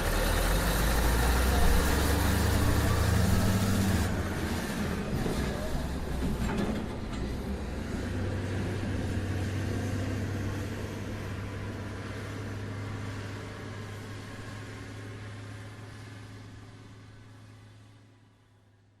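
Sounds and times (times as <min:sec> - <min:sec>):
truck engine humming: 0:00.0 - 0:17.6.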